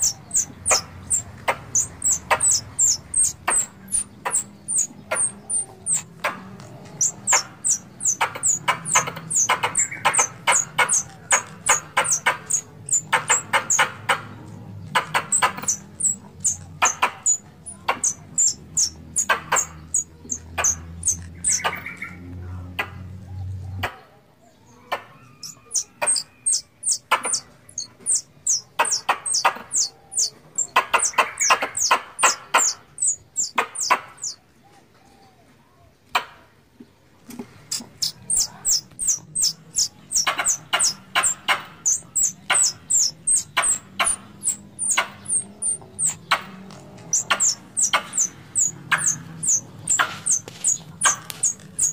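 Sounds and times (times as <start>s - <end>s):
squirrel chipping calls: 0.0s - 22.2s, 24.7s - 34.4s, 37.5s - 51.9s.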